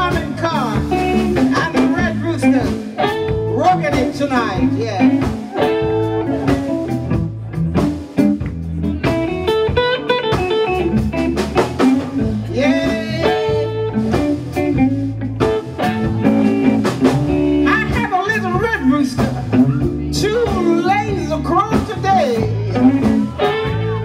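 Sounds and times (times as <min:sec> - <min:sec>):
blues band playing: 0:00.0 - 0:24.0
steady drum beat: 0:00.0 - 0:24.0.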